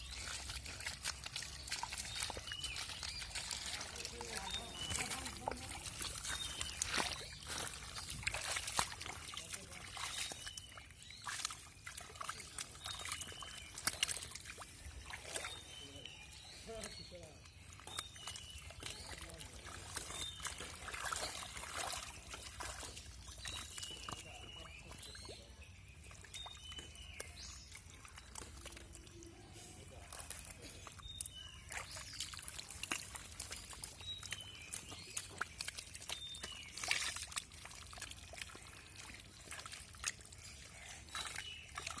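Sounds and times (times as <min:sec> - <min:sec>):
hands squelching through mud: 0:00.0 - 0:42.0.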